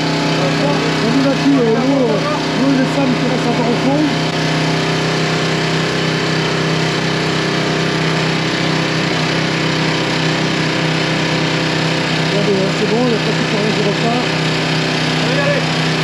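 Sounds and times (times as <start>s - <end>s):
motor pump engine running: 0.0s - 16.0s.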